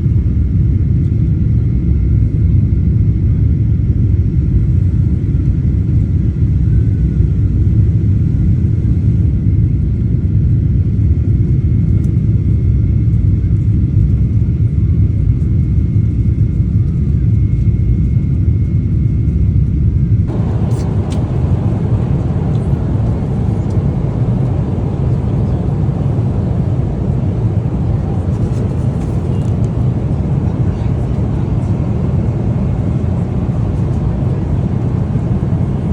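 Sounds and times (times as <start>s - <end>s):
airliner cabin low rumble: 0.0s - 35.9s.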